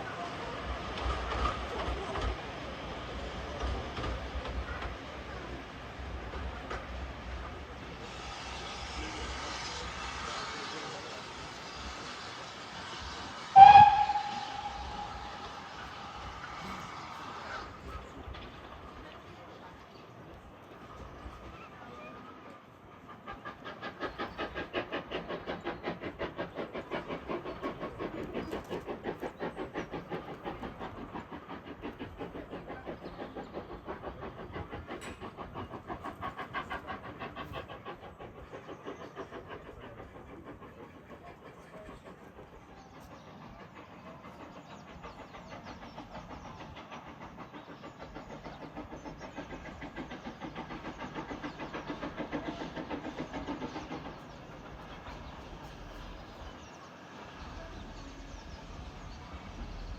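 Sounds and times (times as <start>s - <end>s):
train running rhythmically: 0.0s - 59.9s.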